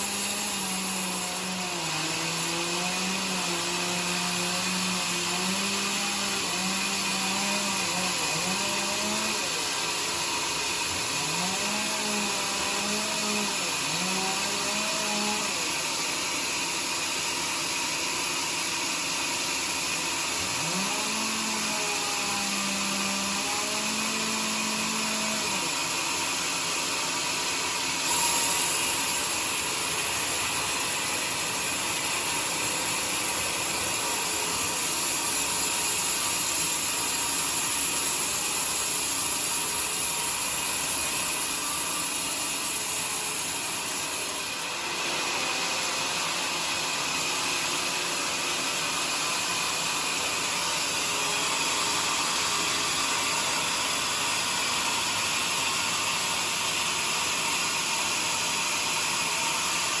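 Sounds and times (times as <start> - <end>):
sawmill saw cutting log: 0.0 - 60.0.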